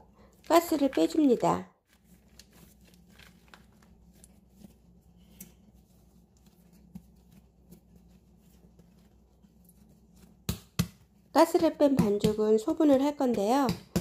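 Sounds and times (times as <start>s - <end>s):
hands folding bread dough: 0.0s - 14.0s
low steady hum: 0.0s - 14.0s.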